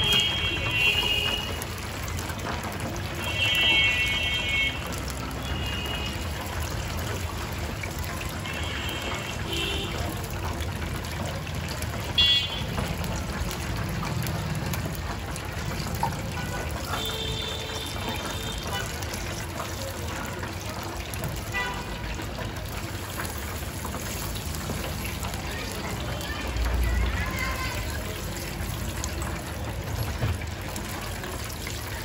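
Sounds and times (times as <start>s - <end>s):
chicken deep-frying in oil: 0.0s - 32.0s.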